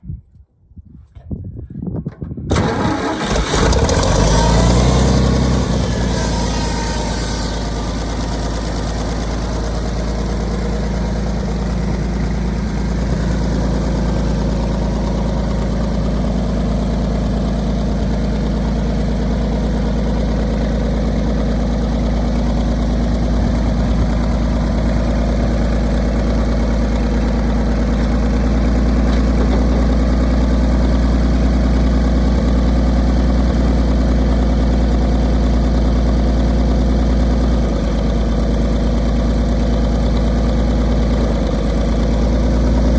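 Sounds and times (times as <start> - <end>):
tractor engine idling: 2.5 - 42.9.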